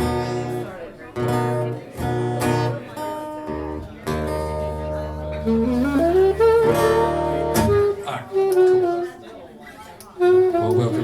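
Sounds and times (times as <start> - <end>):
strummed guitar chords: 0.0 - 9.0.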